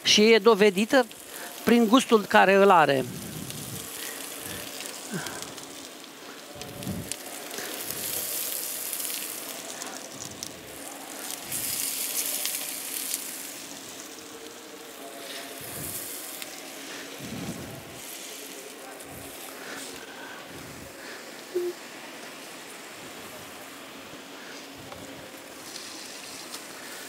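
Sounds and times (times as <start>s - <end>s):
fat sizzling in a frying pan: 0.0s - 27.0s.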